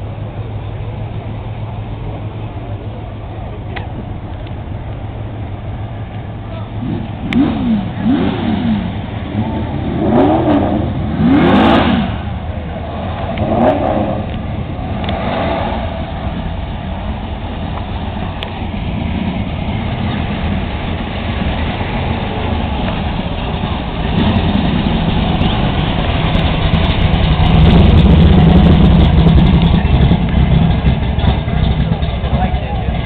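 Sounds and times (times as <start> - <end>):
car engines driving past: 0.0 - 33.0.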